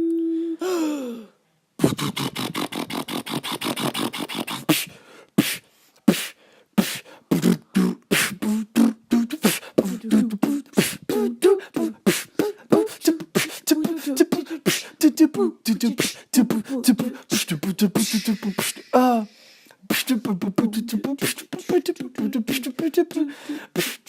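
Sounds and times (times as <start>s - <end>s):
person beatboxing: 1.8s - 24.0s.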